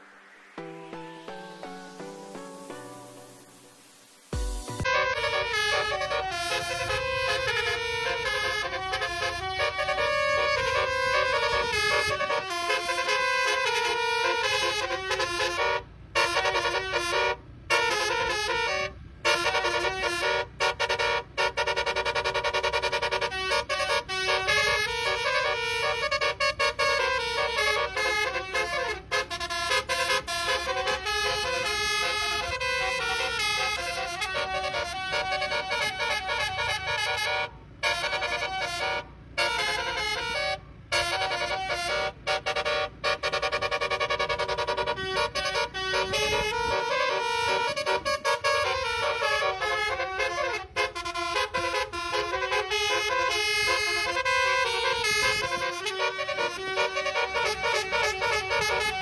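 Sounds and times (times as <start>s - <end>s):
multi-tone air horn melody: 0.0s - 59.0s.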